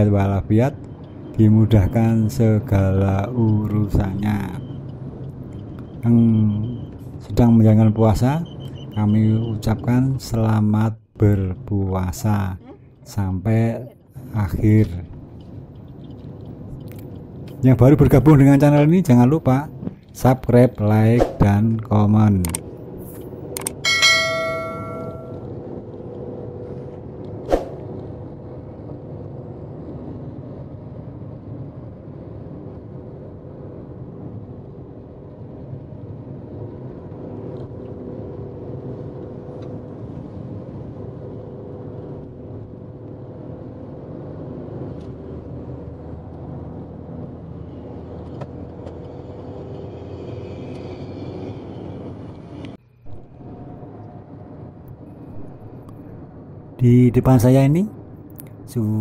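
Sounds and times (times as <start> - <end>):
car tyre and engine rumble: 0.0 - 10.2, 11.2 - 23.8, 25.4 - 59.0.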